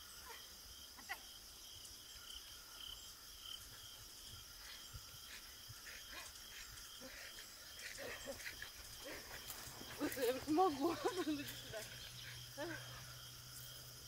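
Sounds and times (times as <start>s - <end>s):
high-pitched insect chirping: 0.0s - 14.0s.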